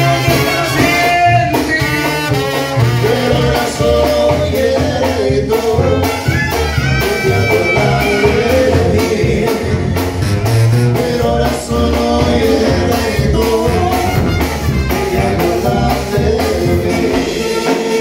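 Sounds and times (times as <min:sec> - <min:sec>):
trumpets: 0:00.0 - 0:04.4, 0:05.6 - 0:11.7, 0:12.3 - 0:18.0
sousaphone bass line: 0:00.0 - 0:18.0.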